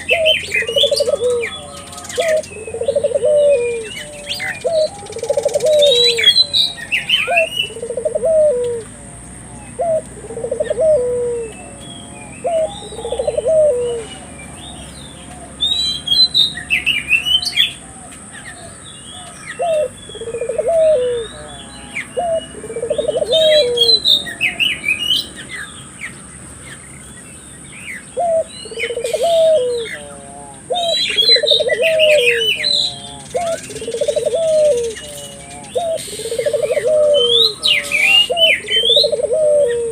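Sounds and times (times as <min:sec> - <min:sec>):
doves cooing: 0:00.0 - 0:25.8, 0:27.9 - 0:39.9
small birds chirping: 0:00.0 - 0:39.9.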